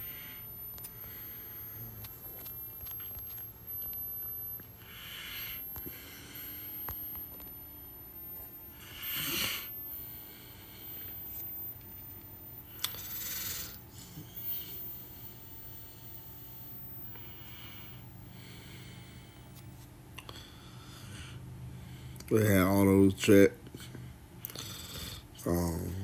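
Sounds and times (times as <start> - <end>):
low steady hum: 0.0 - 24.6.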